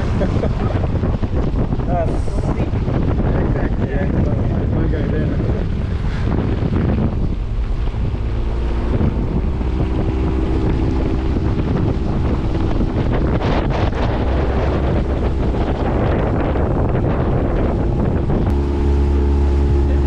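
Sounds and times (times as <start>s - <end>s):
motorboat engine humming: 0.0s - 20.0s
wind buffeting microphone: 0.0s - 20.0s.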